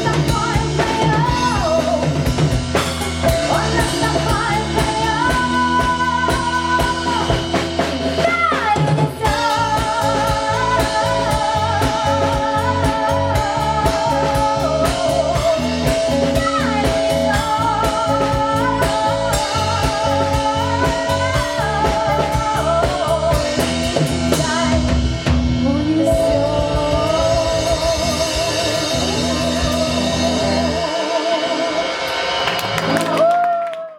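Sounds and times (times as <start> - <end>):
rock band playing: 0.0 - 33.6
person singing: 0.0 - 33.9.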